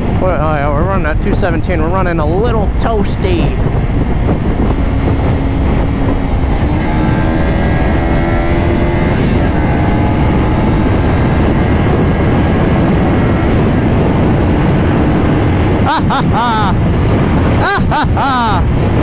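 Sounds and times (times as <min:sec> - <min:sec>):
wind noise on microphone: 0:00.0 - 0:19.0
motorcycle engine running: 0:02.7 - 0:19.0.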